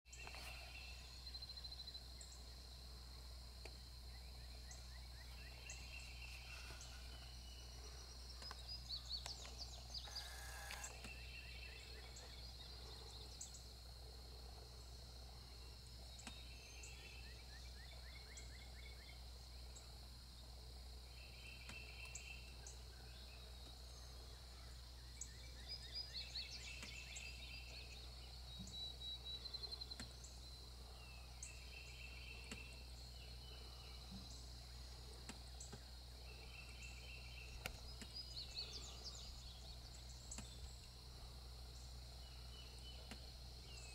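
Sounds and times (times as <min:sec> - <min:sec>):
low steady hum: 0:00.1 - 0:43.9
high insect drone: 0:00.2 - 0:43.9
birds singing in trills: 0:04.1 - 0:13.7, 0:15.6 - 0:19.9, 0:21.1 - 0:41.0, 0:41.8 - 0:43.9.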